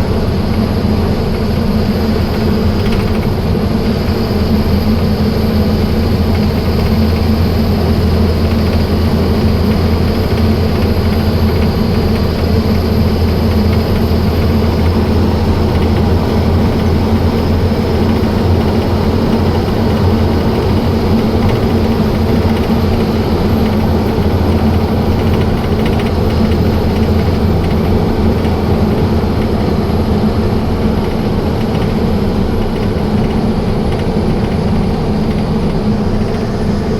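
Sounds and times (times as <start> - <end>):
truck diesel engine running: 0.0 - 36.9.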